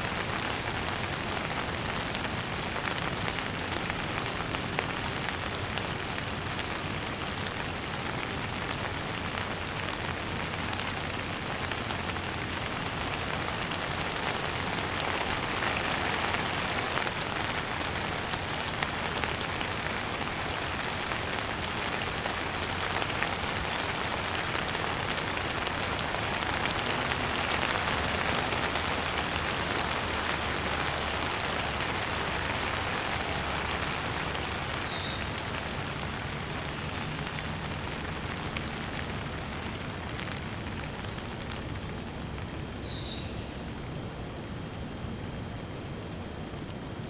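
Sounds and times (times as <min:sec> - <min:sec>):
rain pattering on a surface: 0:00.0 - 0:43.9.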